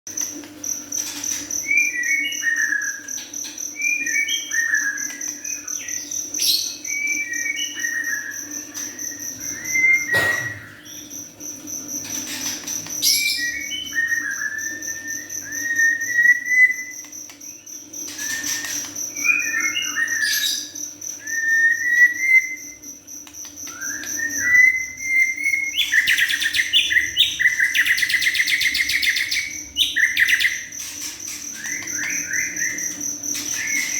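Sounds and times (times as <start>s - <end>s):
bird singing whistled notes: 1.6s - 3.2s, 3.8s - 11.2s, 12.9s - 33.9s.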